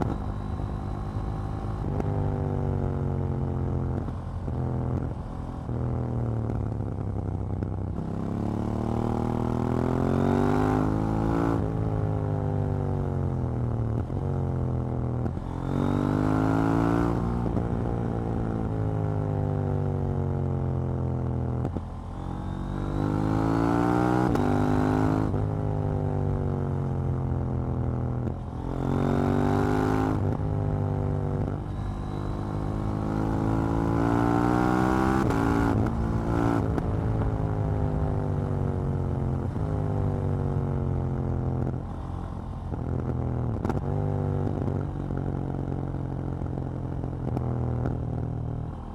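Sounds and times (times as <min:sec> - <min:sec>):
motorcycle engine accelerating through gears: 0:00.0 - 0:48.9.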